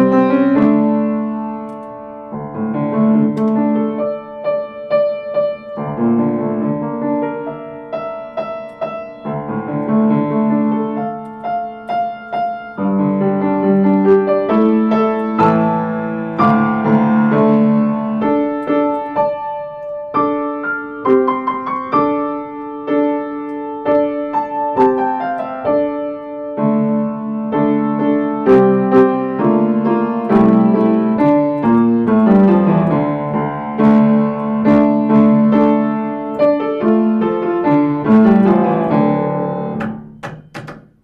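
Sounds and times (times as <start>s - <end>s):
solo piano piece: 0.0s - 41.0s.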